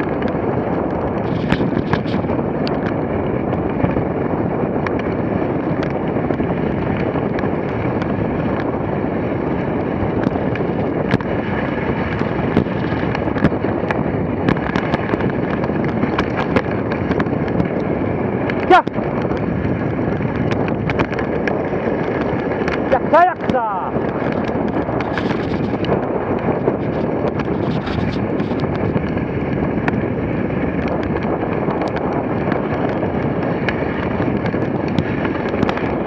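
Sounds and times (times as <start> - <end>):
wind buffeting microphone: 0.0 - 36.0
sled runners hissing over snow: 0.2 - 36.0.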